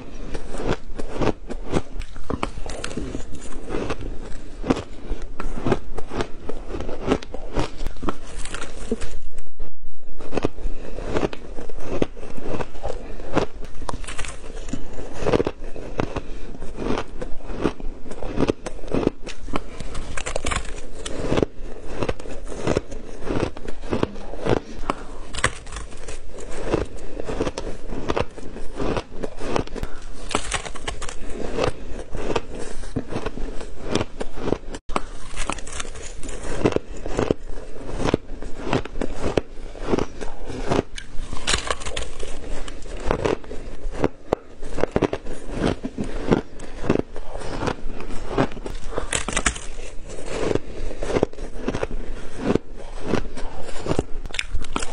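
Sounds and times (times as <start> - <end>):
ice being chewed and crunched: 0.0 - 9.4, 10.2 - 54.9.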